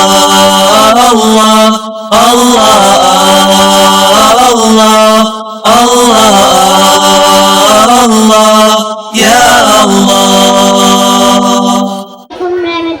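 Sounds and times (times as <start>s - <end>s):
voices chanting long held notes: 0.0s - 12.3s.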